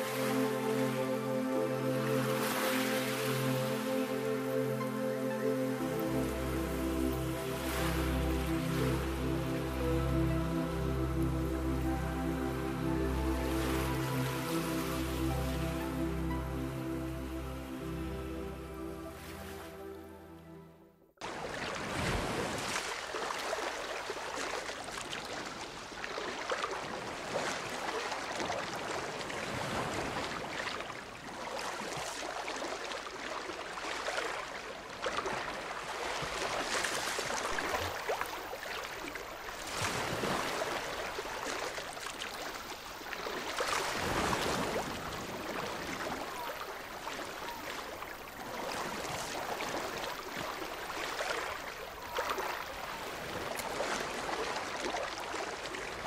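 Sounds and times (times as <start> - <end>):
sea water rushing and sloshing: 0.0 - 20.1, 21.2 - 56.0.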